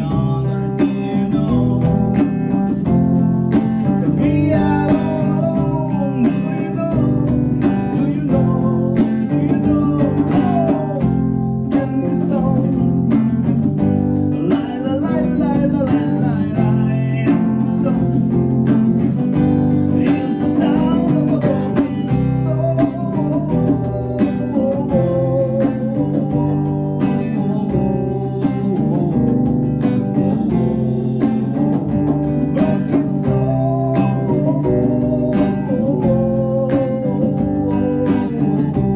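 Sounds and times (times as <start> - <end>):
bass guitar: 0.0 - 38.9
drums: 0.0 - 38.9
guitar melody: 0.0 - 38.9.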